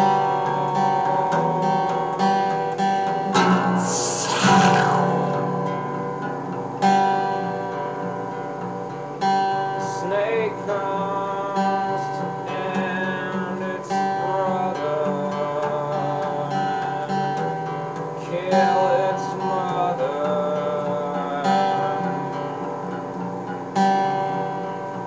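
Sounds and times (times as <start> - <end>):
acoustic guitar chords strummed: 0.0 - 25.0.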